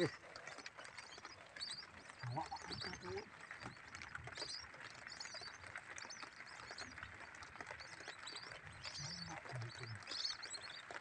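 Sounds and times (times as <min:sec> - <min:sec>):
ducks twittering whistles: 0:00.0 - 0:11.0.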